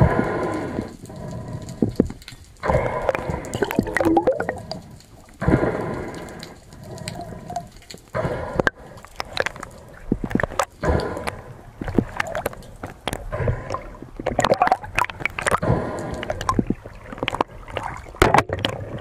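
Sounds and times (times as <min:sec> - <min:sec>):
water drips and pops: 0:00.0 - 0:19.0
water sloshing and gurgling: 0:00.0 - 0:19.0.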